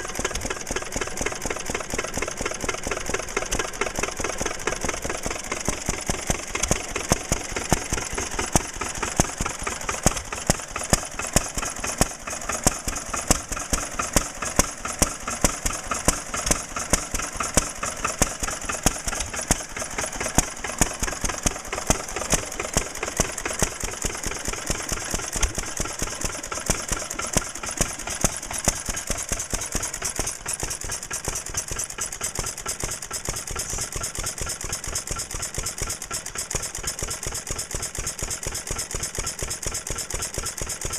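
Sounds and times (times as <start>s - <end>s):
flywheel engine clattering: 0.0s - 40.9s.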